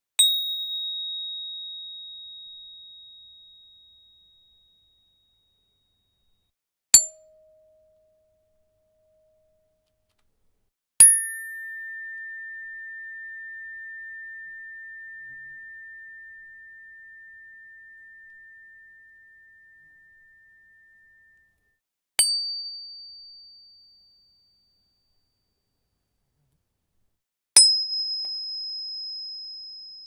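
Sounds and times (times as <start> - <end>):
tuning fork ringing: 0.2 - 9.7, 11.0 - 25.7, 27.6 - 30.0.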